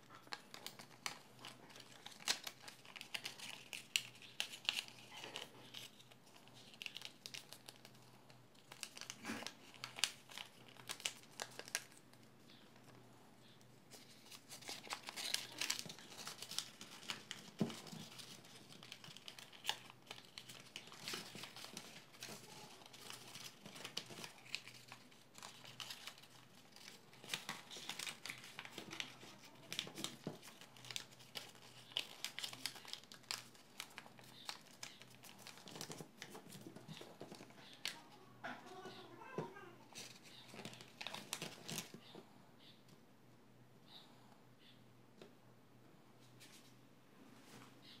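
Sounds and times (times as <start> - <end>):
paper crinkling and crackling: 0.0 - 42.3.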